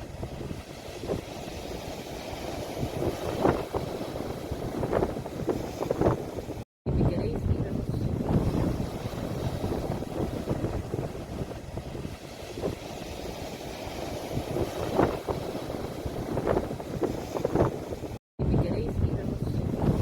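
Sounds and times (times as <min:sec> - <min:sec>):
sea waves at shore: 0:00.0 - 0:20.0
wind rumbling on microphone: 0:00.0 - 0:20.0.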